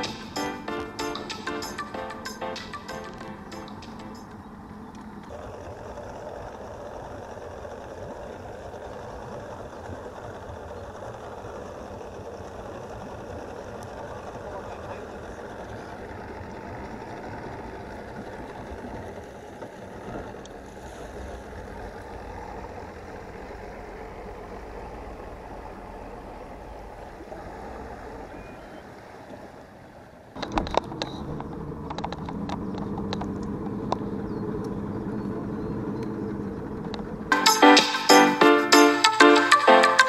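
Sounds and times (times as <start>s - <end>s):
water around hull: 0.0s - 37.4s
outboard motor hum: 0.0s - 40.0s
outboard motors idling: 0.0s - 40.0s.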